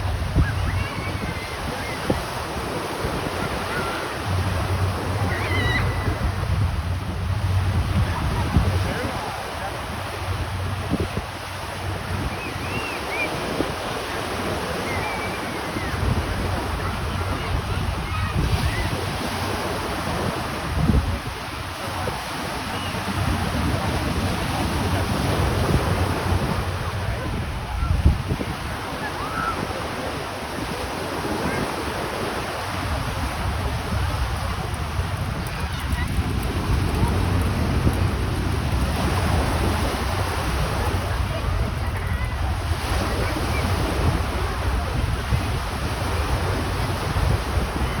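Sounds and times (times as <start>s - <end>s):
waves on open water: 0.0s - 48.0s
wind buffeting microphone: 0.0s - 48.0s.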